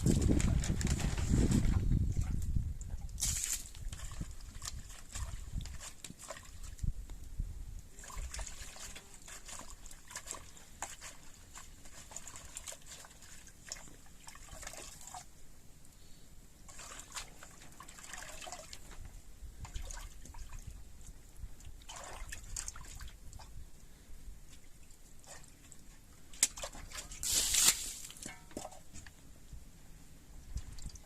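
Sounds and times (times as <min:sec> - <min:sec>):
water trickling and splashing: 0:00.0 - 0:07.0, 0:07.8 - 0:15.4, 0:16.6 - 0:29.1, 0:30.4 - 0:31.0.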